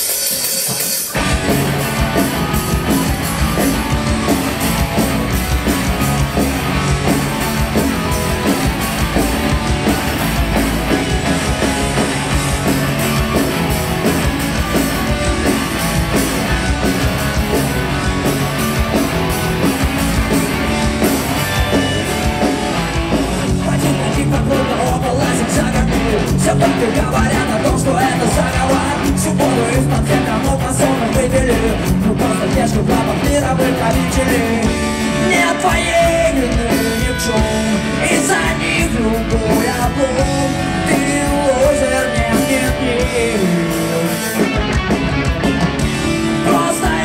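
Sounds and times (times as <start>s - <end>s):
live rock band instrumental: 0.0s - 47.0s.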